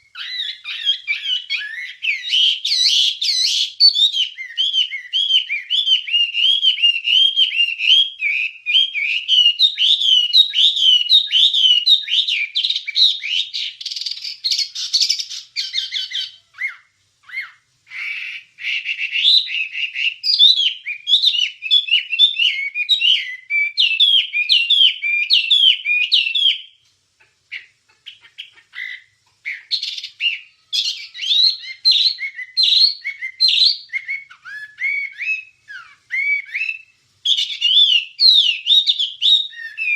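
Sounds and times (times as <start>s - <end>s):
songbird singing chirps: 0.0s - 39.9s.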